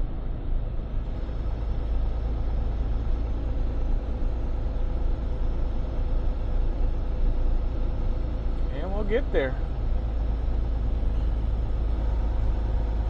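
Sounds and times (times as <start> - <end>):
diesel engine rumble: 0.0 - 13.0
road noise: 0.0 - 13.0.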